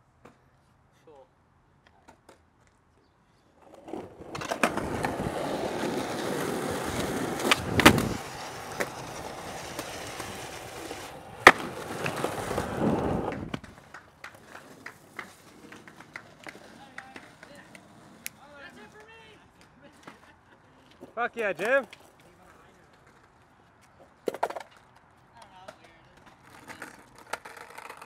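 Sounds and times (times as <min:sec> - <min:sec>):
skateboard rolling: 0:03.5 - 0:19.1, 0:19.9 - 0:28.0
skateboard crack: 0:03.5 - 0:28.0
skateboard clacks: 0:03.6 - 0:20.3, 0:21.6 - 0:28.0.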